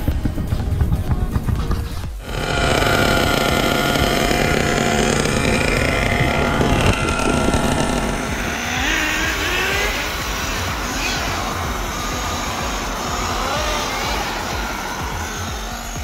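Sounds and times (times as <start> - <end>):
radio-controlled car motors revving: 1.8 - 16.0.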